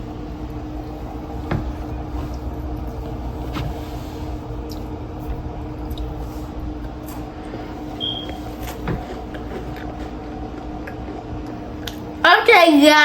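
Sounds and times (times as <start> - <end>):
mechanical hum with low rumble: 0.0 - 13.0.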